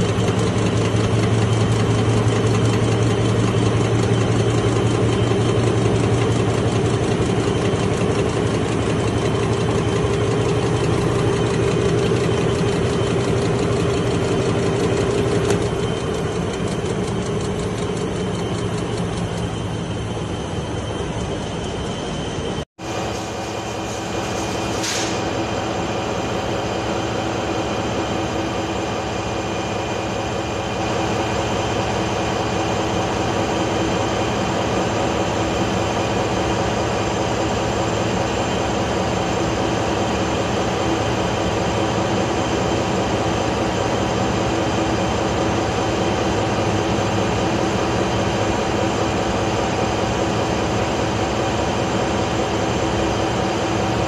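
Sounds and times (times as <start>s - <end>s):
diesel generator engine drone: 0.0s - 54.0s.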